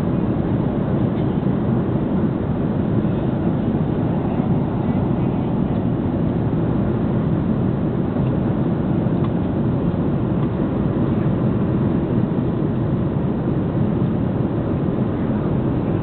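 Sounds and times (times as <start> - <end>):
airplane cabin engine noise: 0.0 - 16.0.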